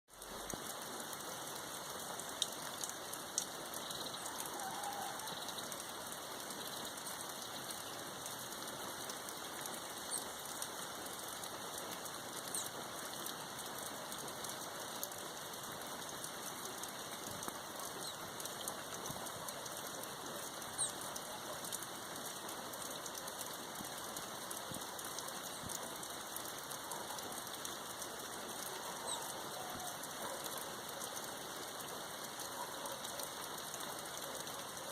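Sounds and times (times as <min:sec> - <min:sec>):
raindrop ticks and taps: 0:00.1 - 0:34.9
steady rain: 0:00.1 - 0:34.9.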